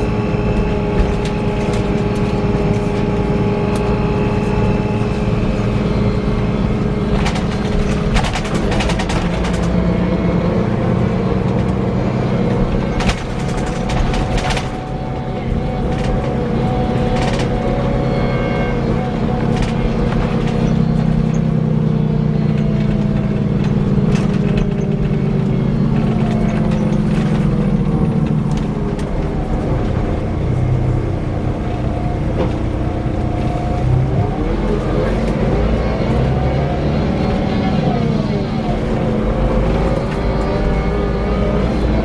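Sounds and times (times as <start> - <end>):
coach drivetrain whirring: 0.0 - 42.0.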